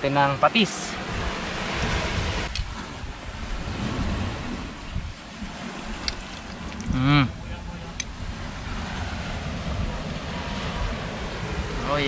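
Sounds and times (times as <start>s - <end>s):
steady outdoor hiss: 0.0s - 12.0s
wind rumbling on microphone: 0.9s - 12.0s.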